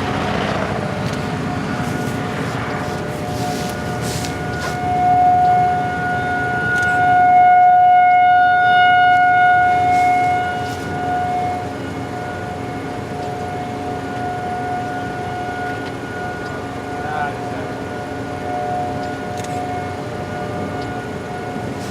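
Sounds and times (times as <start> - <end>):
warning siren steady tone: 0.0 - 21.9.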